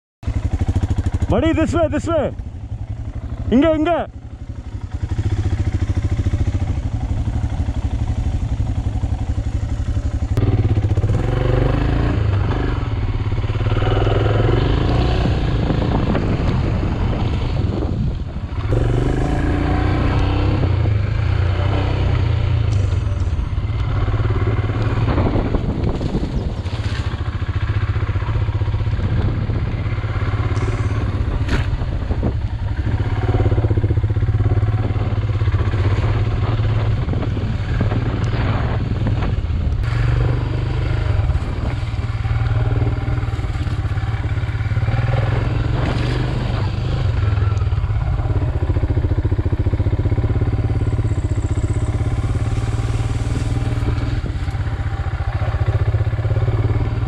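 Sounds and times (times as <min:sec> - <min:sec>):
motorcycle engine running at low revs: 0:00.2 - 0:57.0.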